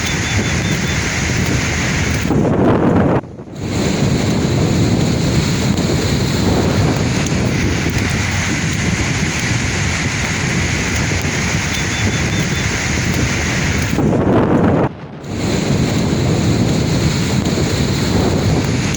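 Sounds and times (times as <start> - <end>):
sea waves washing on shore: 0.0 - 14.6, 15.2 - 18.9
wind noise on microphone: 0.0 - 18.9.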